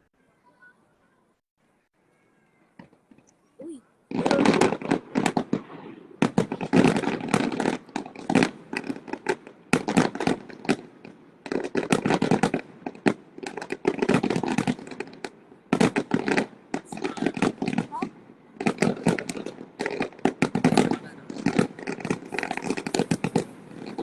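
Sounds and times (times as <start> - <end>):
fireworks bangs and crackles: 2.8 - 24.0.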